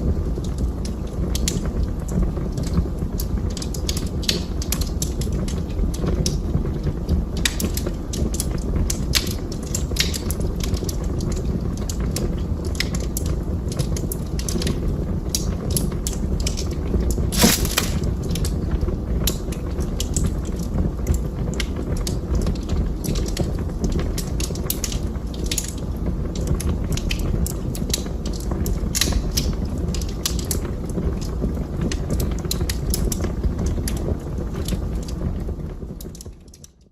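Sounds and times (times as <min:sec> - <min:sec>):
low rumble of flames: 0:00.0 - 0:36.9
burning wood crackling and popping: 0:00.1 - 0:36.9.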